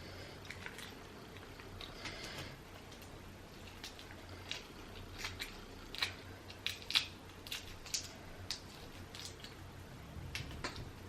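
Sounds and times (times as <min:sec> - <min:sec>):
shellfish shells cracking: 0:00.4 - 0:09.6.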